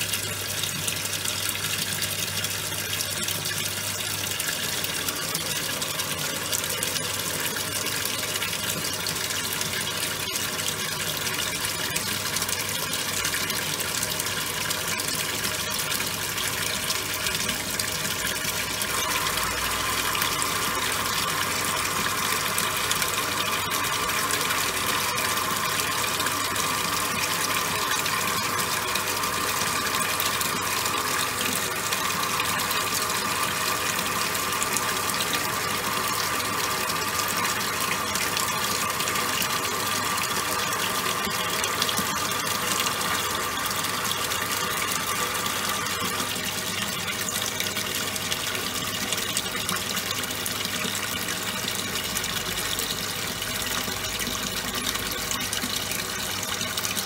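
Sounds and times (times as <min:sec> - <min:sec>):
washing machine hum: 0:00.0 - 0:57.0
water churning in washing machine: 0:00.0 - 0:57.0.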